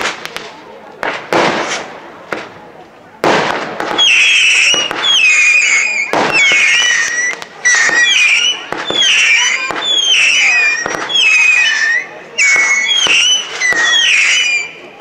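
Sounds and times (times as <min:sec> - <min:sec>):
fireworks whistling: 0:00.0 - 0:02.6, 0:03.2 - 0:15.0
fireworks bangs and crackle: 0:00.0 - 0:15.0.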